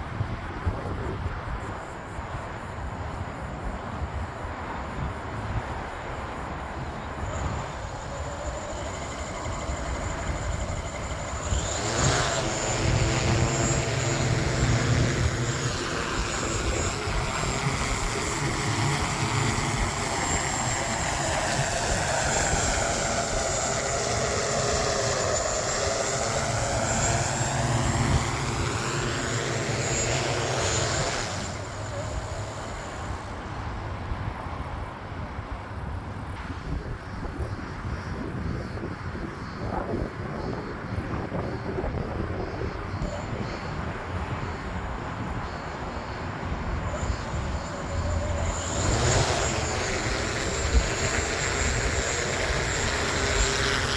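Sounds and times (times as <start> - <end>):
drone propellers whirring: 1.4 - 34.8, 36.4 - 53.9.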